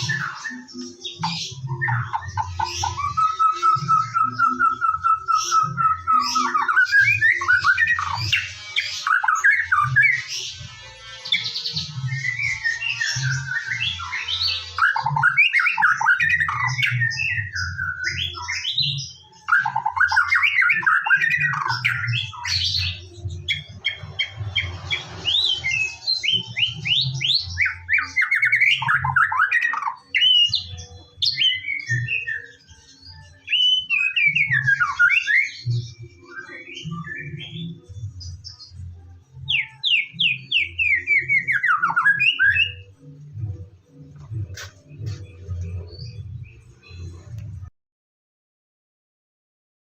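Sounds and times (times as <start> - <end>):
shama singing: 0.0 - 47.7.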